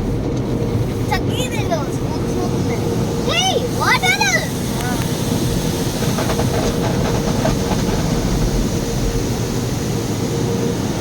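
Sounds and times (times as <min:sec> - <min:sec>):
low rumble: 0:00.0 - 0:03.2, 0:04.6 - 0:11.0
water spraying onto car: 0:00.0 - 0:11.0.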